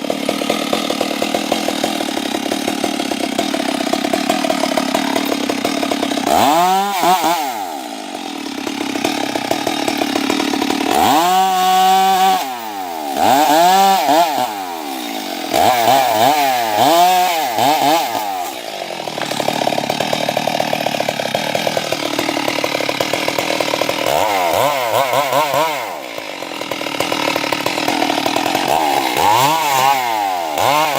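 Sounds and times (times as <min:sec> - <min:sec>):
chainsaw cutting a tree: 0:00.0 - 0:30.9.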